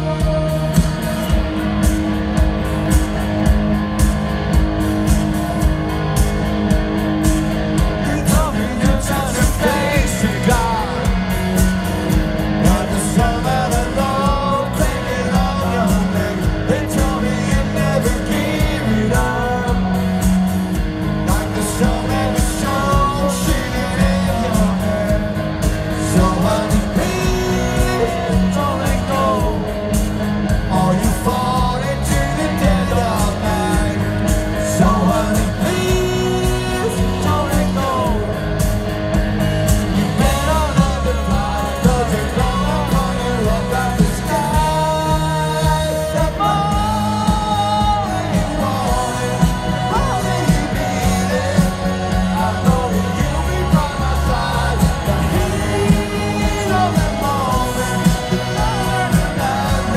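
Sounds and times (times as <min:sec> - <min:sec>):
drum beat: 0:00.0 - 0:59.9
male lead vocal: 0:00.0 - 0:59.9
rock band playing: 0:00.0 - 0:59.9.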